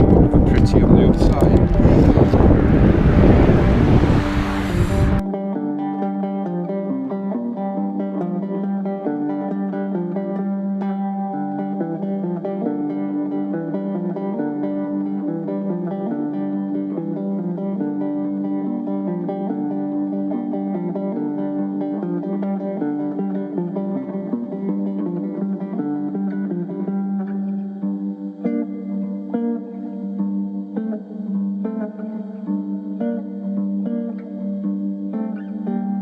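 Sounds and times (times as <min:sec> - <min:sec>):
guitar music: 0:00.0 - 0:36.0.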